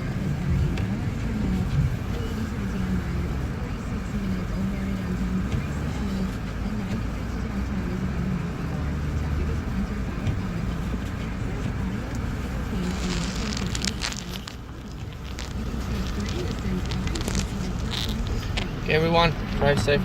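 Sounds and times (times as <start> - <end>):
car engine and tyres rumble: 0.0 - 20.0.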